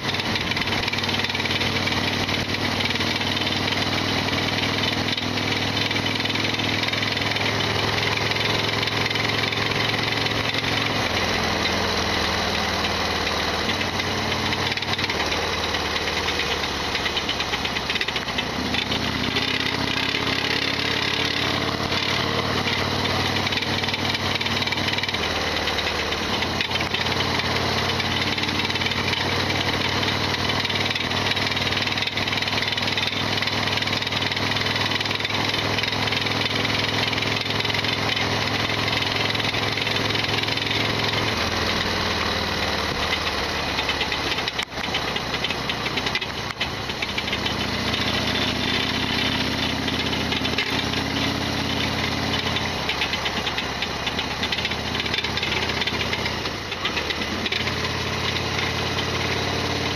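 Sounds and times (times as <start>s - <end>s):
engine mechanical rattling: 0.0s - 59.9s
motorcycle engine running: 0.0s - 59.9s.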